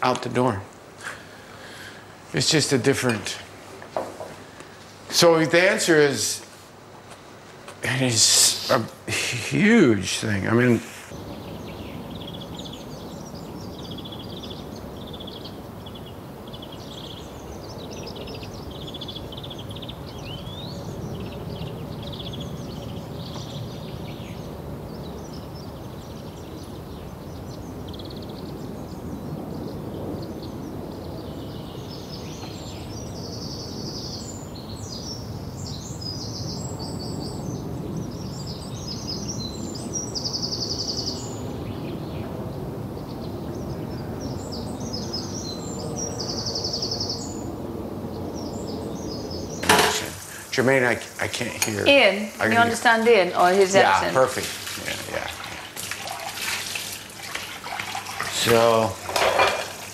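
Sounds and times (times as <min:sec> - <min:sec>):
low background noise: 0:00.0 - 0:59.9
small birds chirping: 0:00.0 - 0:59.9.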